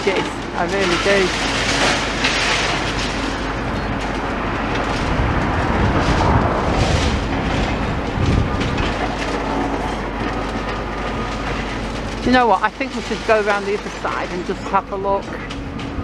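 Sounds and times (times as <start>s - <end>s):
crunching clattering debris: 0.0s - 16.0s
excavator engine rumble: 0.0s - 16.0s.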